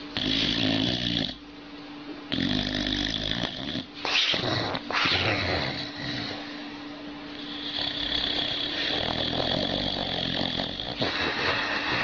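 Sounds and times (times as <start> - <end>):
dog snoring and grumbling: 0.0 - 1.4, 2.3 - 6.6, 7.3 - 12.0.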